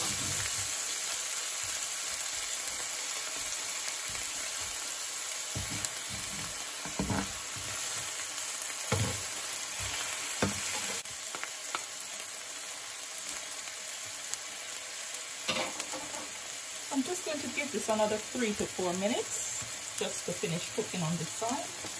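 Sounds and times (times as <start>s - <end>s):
steak sizzling in a pan: 0.0s - 21.9s.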